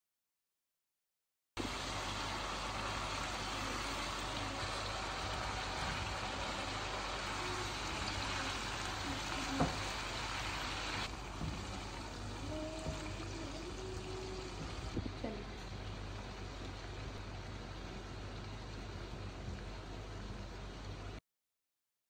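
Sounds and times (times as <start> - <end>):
gravy sizzling in a pan: 1.6 - 21.2.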